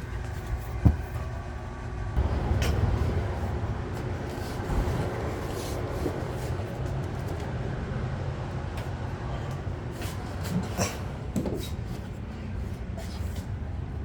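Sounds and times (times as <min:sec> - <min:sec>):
gas furnace rumbling: 0:00.0 - 0:14.0.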